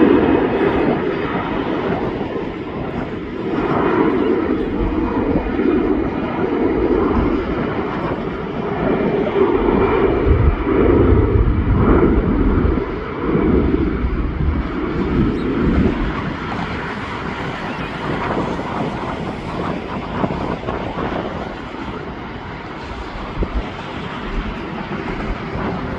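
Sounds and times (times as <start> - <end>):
jet engines rumbling: 0.0 - 25.9
wind buffeting microphone: 0.0 - 25.9.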